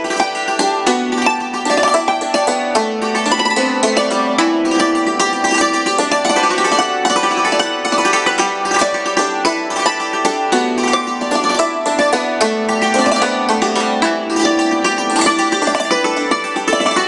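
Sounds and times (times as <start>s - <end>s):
hammered dulcimer: 0.0s - 17.0s.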